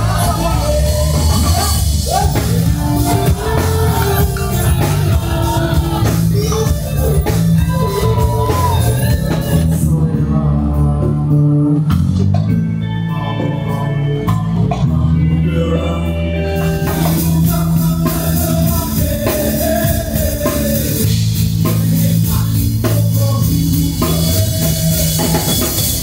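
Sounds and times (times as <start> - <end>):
person singing: 0.0 - 12.2, 12.8 - 26.0
music with heavy bass line: 0.0 - 26.0.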